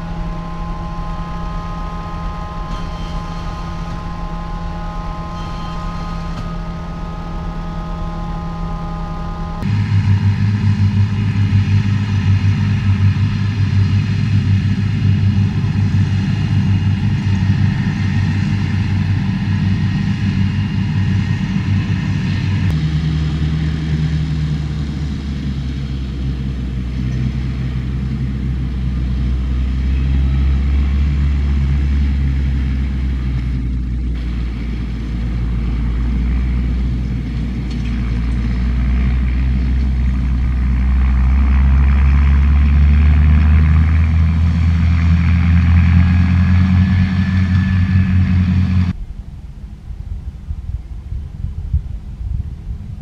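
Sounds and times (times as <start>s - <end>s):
tractor engine drone: 0.0s - 53.0s.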